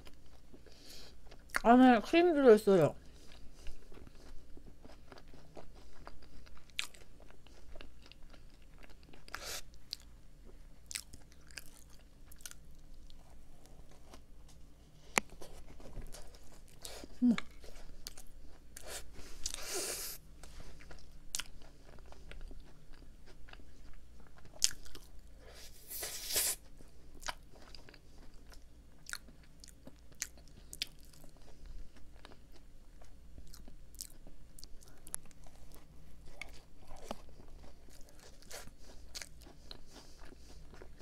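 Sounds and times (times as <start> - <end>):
crunchy chewing: 3.0 - 10.1, 10.8 - 14.3, 15.0 - 41.0.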